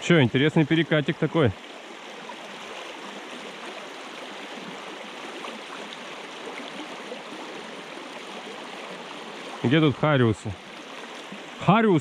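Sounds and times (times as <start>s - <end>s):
water rushing over river riffle: 0.0s - 12.0s.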